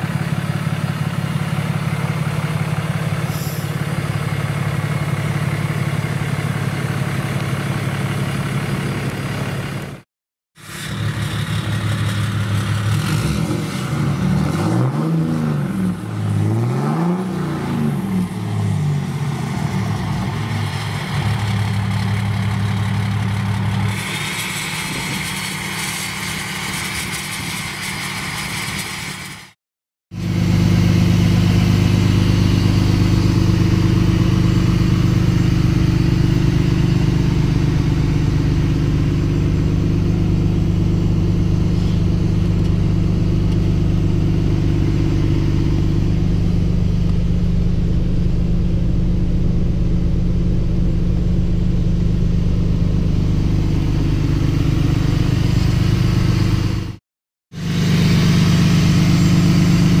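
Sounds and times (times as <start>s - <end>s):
diesel engine idling: 0.0s - 10.0s, 15.8s - 26.8s, 30.1s - 57.0s, 57.6s - 60.0s.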